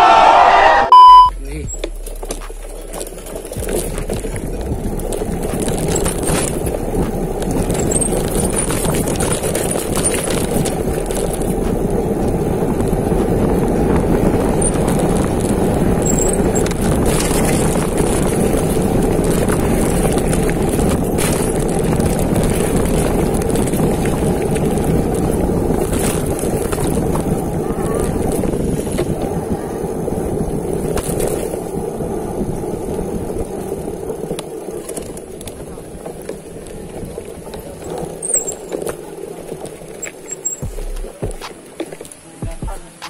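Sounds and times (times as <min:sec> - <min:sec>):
bike tyre rumble: 0:01.4 - 0:43.0
bike rattles and knocks: 0:01.6 - 0:43.0
wind on microphone: 0:02.4 - 0:43.0.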